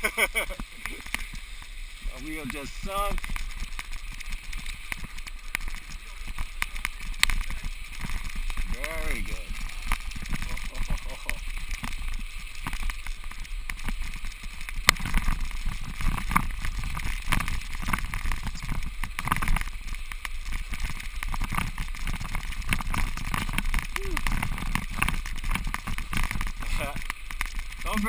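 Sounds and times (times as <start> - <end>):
bicycle tyres crackling over ice: 0.0 - 28.0.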